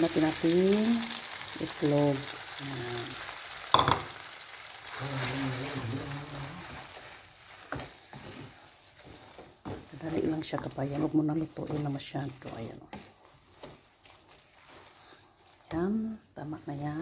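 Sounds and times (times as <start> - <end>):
food sizzling in a hot pan: 0.0 - 17.0
wooden spoon stirring: 0.0 - 17.0.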